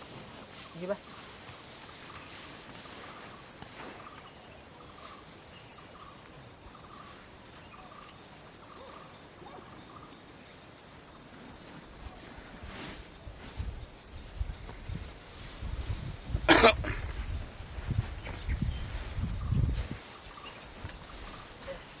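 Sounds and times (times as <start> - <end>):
light outdoor hiss: 0.0 - 22.0.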